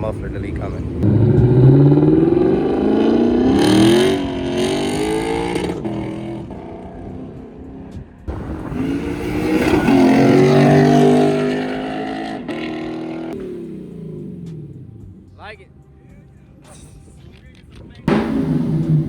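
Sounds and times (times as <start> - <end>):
car engine revving: 0.0 - 15.5, 18.0 - 19.0.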